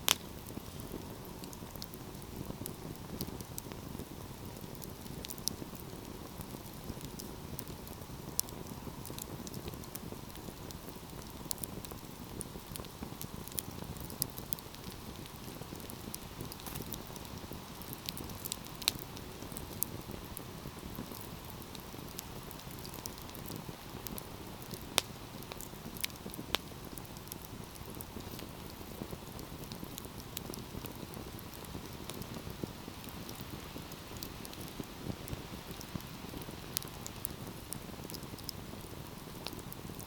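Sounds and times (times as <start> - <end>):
fire crackles and pops: 0.0 - 40.0.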